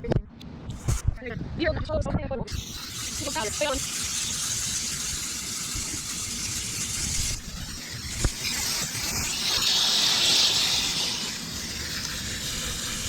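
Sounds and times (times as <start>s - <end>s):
hose nozzle spraying water: 2.5s - 13.0s.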